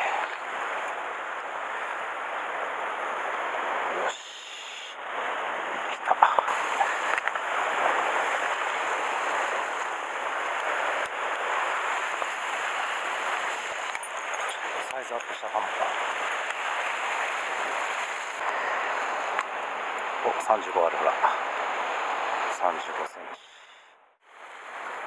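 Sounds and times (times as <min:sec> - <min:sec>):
sea waves on rocks: 0:00.0 - 0:23.1, 0:24.3 - 0:25.0.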